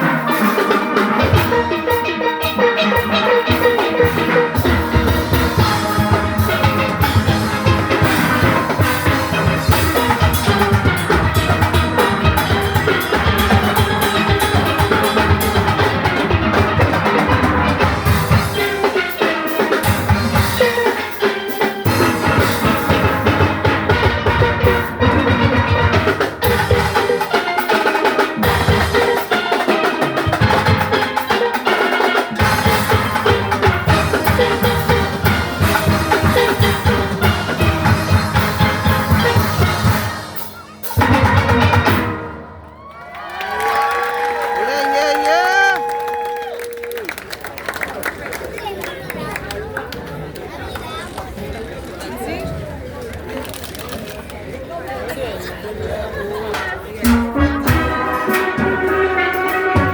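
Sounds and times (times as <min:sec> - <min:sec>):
drum kit and rhythm section: 0:00.0 - 0:47.3, 0:56.5 - 0:59.9.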